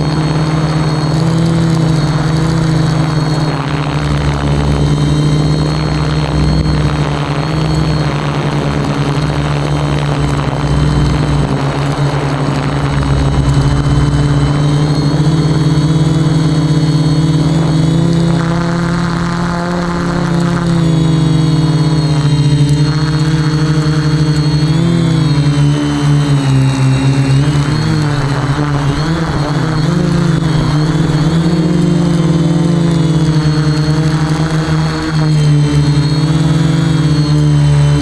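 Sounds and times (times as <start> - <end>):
quadcopter propellers whirring: 0.0 - 38.0.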